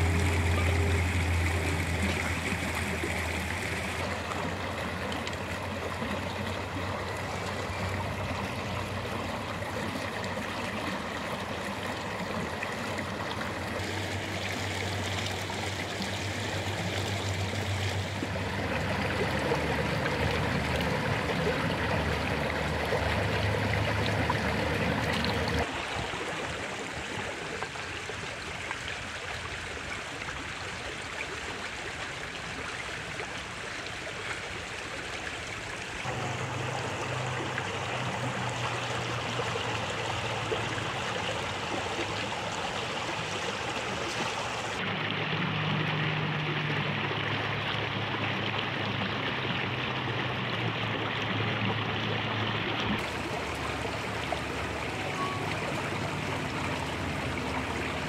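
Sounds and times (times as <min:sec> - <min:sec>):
rushing stream water: 0:00.0 - 0:58.0.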